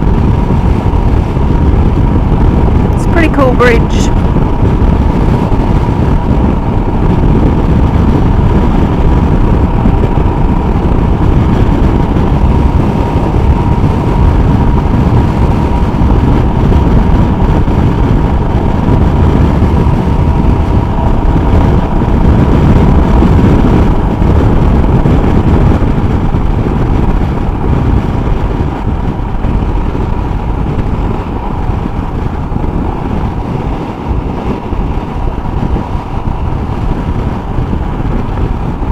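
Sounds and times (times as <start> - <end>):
motorcycle engine drone: 0.0 - 38.9
wind rushing over microphone: 0.0 - 38.9.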